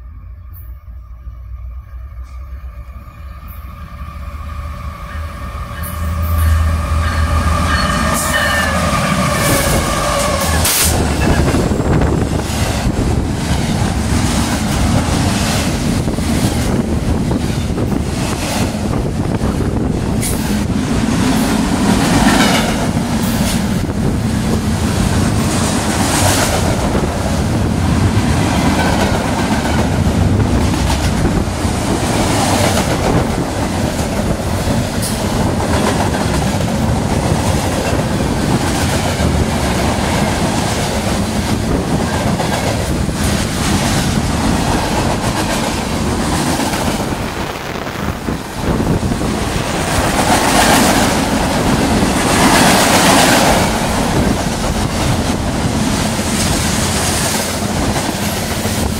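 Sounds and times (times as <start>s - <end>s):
train wheel noise: 1.6s - 58.9s.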